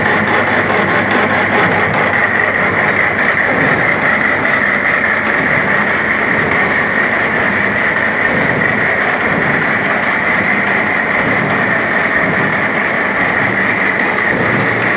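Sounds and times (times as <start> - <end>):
milling machine running: 0.0 - 14.9.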